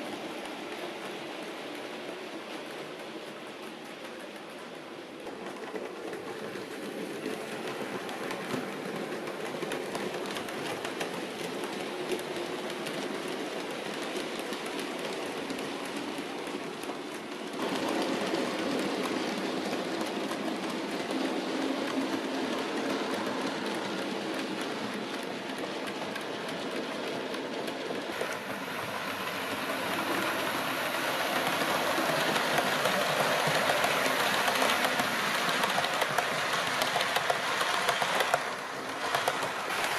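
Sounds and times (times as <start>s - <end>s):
wheels ticking over rail joints: 0.1s - 39.9s.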